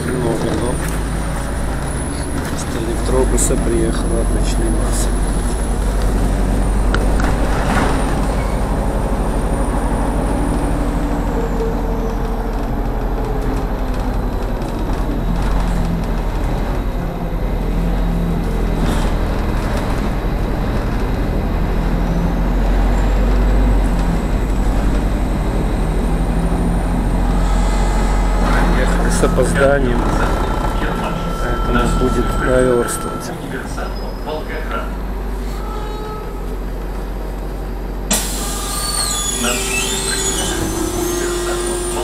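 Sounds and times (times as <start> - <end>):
bus engine rumble: 0.0 - 42.0
road noise: 0.0 - 42.0.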